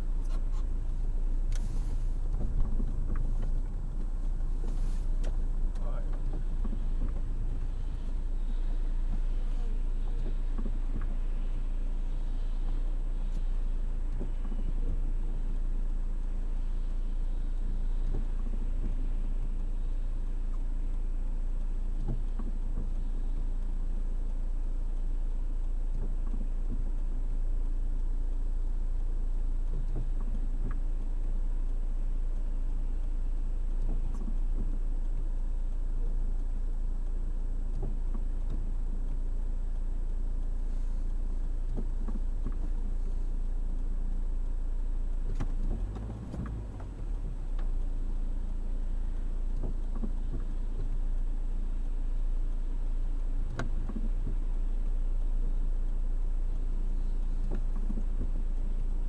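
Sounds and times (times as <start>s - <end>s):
car engine idling: 0.0s - 59.0s
faint clicks: 0.1s - 59.0s.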